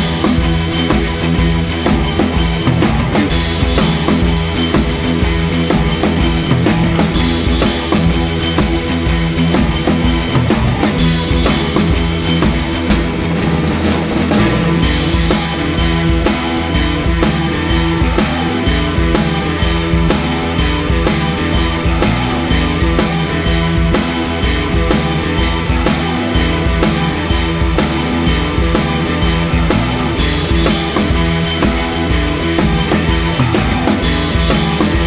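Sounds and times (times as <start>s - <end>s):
driving drum beat: 0.0s - 35.0s
rock music: 0.0s - 35.0s.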